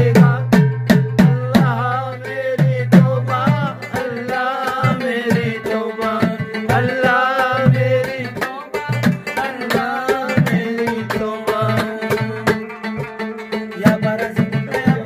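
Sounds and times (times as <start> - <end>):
drum beat: 0.0 - 15.0
man singing: 0.0 - 15.0
plucked rubab strings: 0.0 - 15.0.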